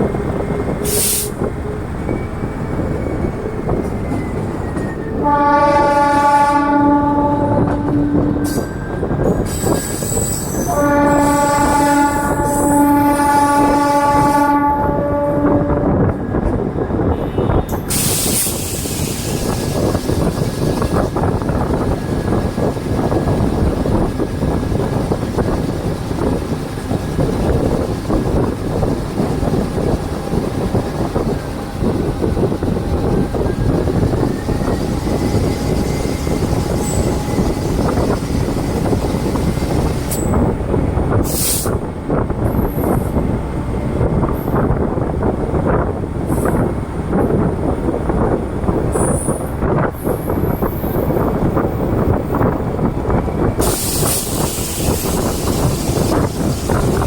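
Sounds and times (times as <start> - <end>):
train rumbling on board: 0.0 - 57.0.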